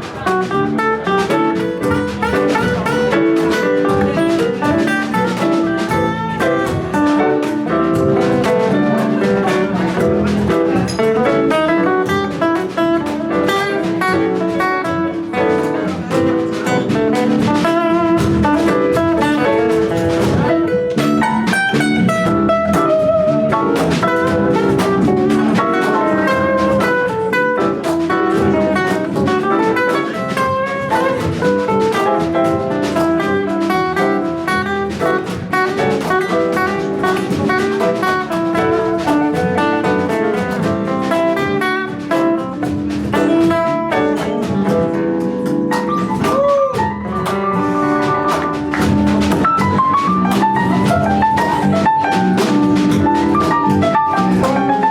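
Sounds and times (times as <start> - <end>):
drum kit: 0.0 - 54.9
guitar lines: 0.0 - 54.9
live band playing: 0.0 - 54.9.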